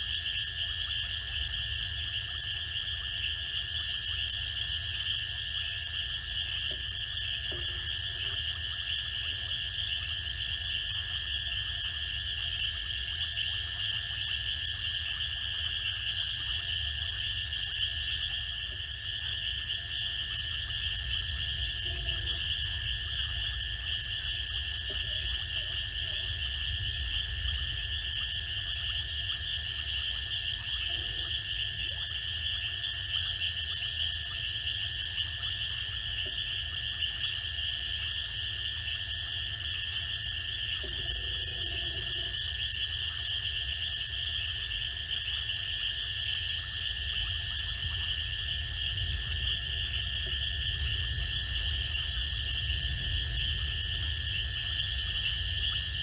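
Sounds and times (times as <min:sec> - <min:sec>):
frogs calling low: 0:00.0 - 0:56.0
insects trilling: 0:00.0 - 0:56.0.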